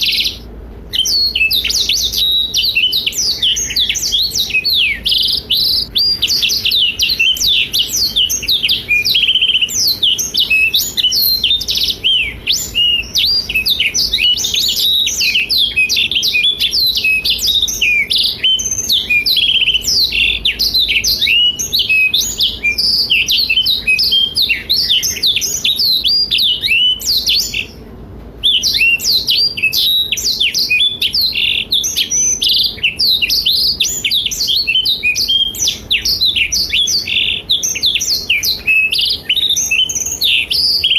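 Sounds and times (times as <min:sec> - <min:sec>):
canary singing high twittering song: 0:00.0 - 0:40.9.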